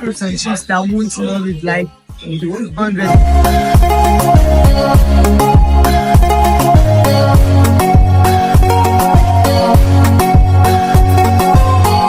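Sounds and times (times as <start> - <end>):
afrobeat music with drums and bass: 0.0 - 12.0.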